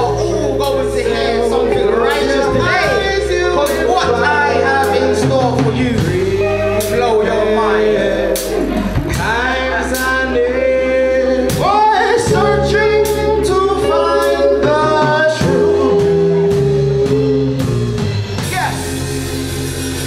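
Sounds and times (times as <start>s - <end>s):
man singing: 0.0s - 19.0s
reggae band playing: 0.0s - 20.0s.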